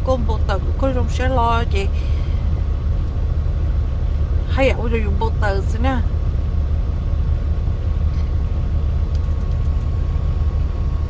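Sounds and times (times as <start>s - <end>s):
faint constant whine: 0.0s - 11.0s
road noise: 0.0s - 11.0s
truck engine rumble: 0.0s - 11.0s.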